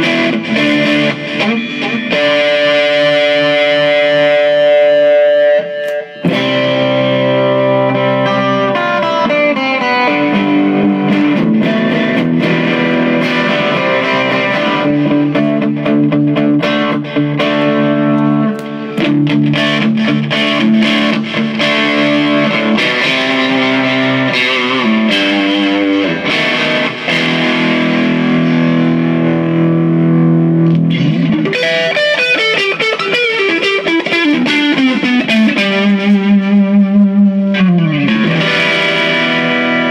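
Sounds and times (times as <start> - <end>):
overdriven electric guitar: 0.0 - 39.9.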